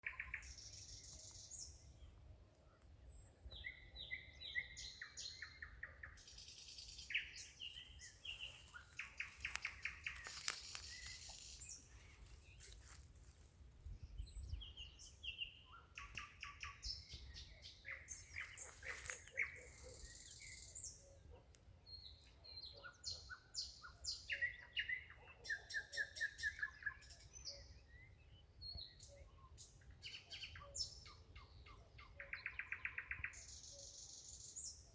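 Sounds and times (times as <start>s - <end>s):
nightingale singing: 0.0s - 2.1s, 3.1s - 13.0s, 13.8s - 34.9s.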